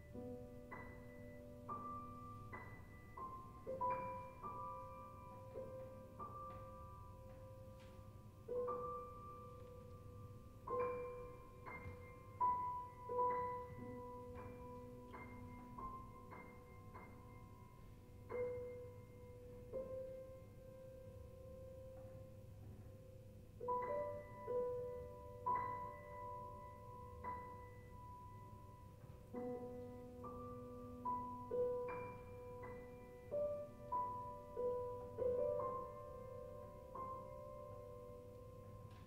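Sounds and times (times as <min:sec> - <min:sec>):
soft slow piano piece: 0:00.0 - 0:39.0.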